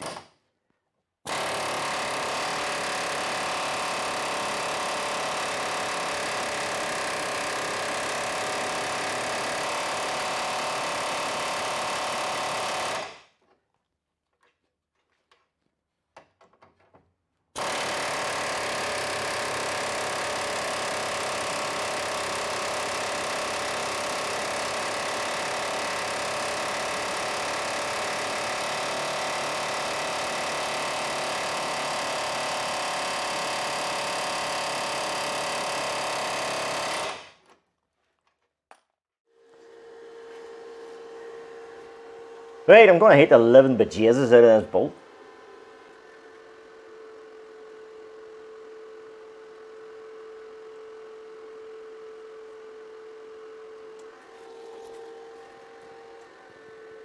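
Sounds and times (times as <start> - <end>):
power tool running: 1.3 - 13.4, 17.6 - 37.4, 39.3 - 57.0.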